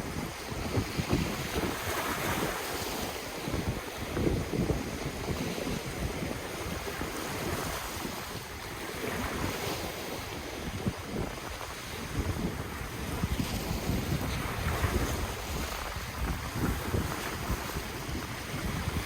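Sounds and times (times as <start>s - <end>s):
ocean waves washing in: 0.0s - 19.0s
wind buffeting microphone: 0.0s - 19.0s.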